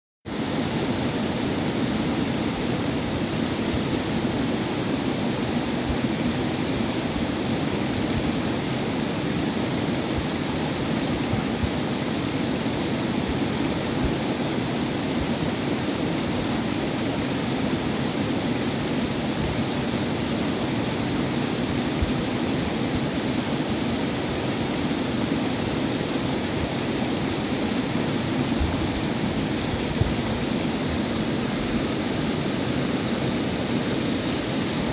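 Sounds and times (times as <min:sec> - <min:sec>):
water rushing over boulders: 0:00.3 - 0:34.9.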